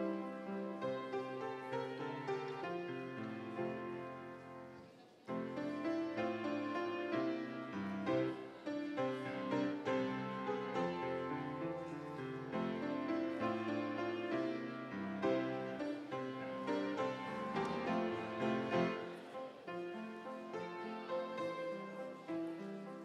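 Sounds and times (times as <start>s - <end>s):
solo grand piano piece: 0.0s - 23.0s.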